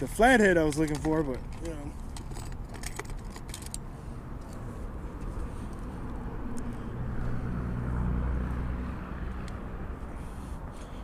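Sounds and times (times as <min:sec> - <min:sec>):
low engine hum: 0:01.4 - 0:11.0.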